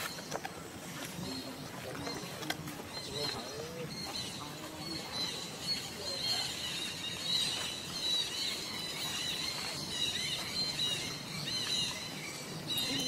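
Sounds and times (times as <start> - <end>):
animals squeaking: 1.2 - 13.0.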